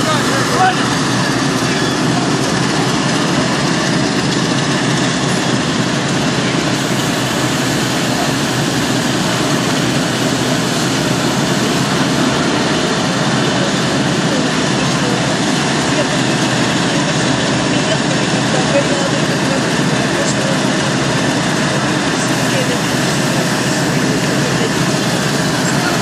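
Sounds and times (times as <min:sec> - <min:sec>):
fire truck engines rumbling: 0:00.0 - 0:26.0
people's voices: 0:00.0 - 0:26.0.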